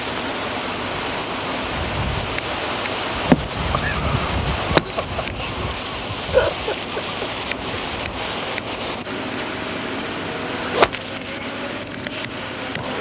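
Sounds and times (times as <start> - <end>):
outdoor hiss: 0.0 - 13.0.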